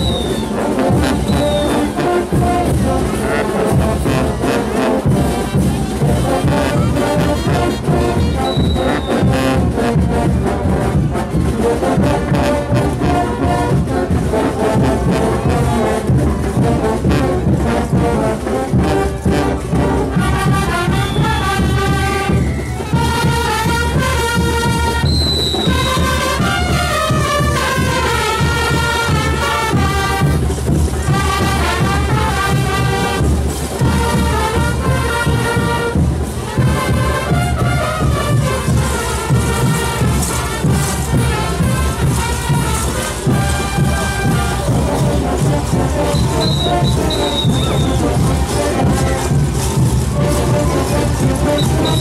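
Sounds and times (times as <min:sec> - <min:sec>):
brass band playing: 0:00.0 - 0:52.0
held brass chords: 0:00.2 - 0:25.1, 0:25.9 - 0:52.0.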